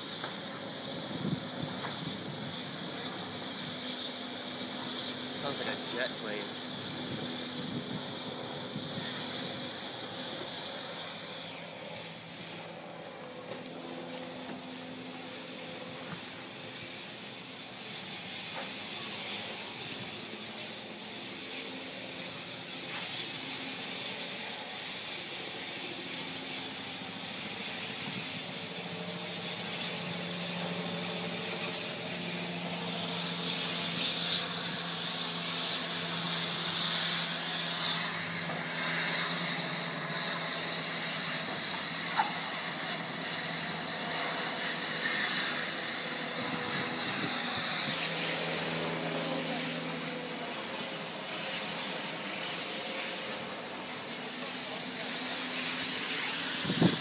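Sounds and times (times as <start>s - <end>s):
large fire burning with rushing hiss: 0.0s - 57.0s.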